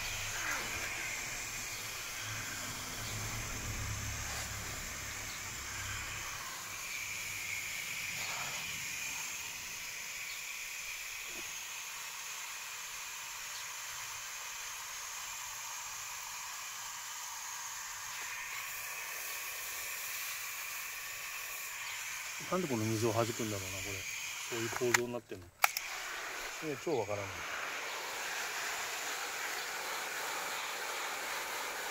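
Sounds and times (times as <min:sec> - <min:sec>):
hose water spraying on leaves: 0:00.0 - 0:31.9.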